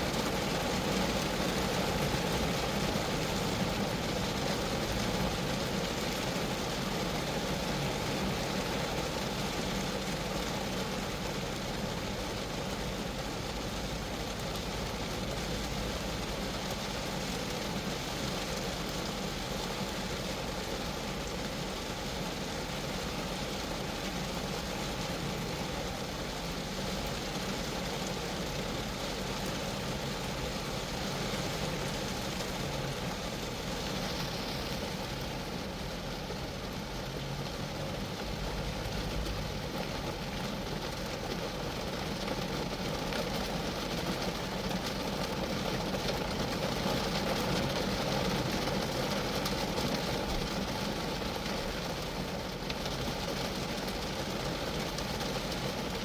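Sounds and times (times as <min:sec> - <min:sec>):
rain falling on a car: 0:00.0 - 0:56.0.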